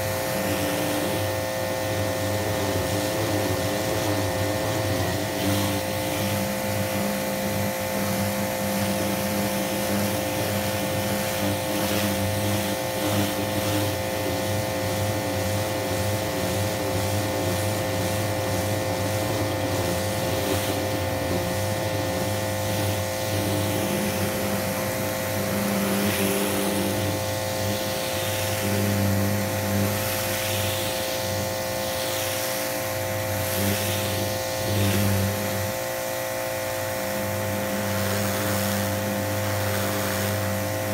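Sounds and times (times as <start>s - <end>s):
pressure washer motor humming: 0.0s - 40.9s
water jet hissing on wood: 0.0s - 40.9s.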